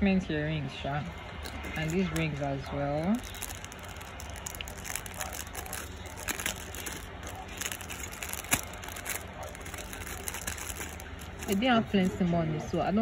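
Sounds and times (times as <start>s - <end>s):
plastic bag crinkling: 1.1s - 12.2s.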